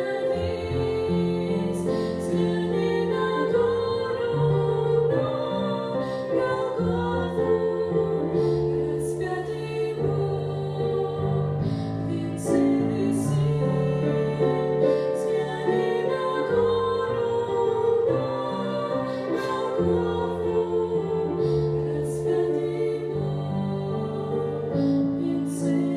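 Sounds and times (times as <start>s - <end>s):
voices singing held notes: 0.0s - 25.9s.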